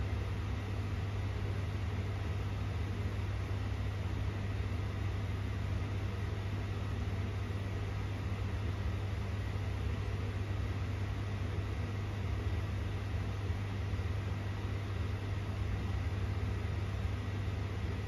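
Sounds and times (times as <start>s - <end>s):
mechanical hum with hiss: 0.0s - 18.0s.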